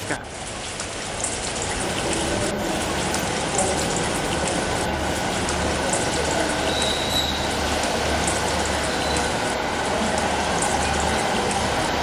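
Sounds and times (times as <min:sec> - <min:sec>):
train engines and wheels running: 0:01.2 - 0:12.0.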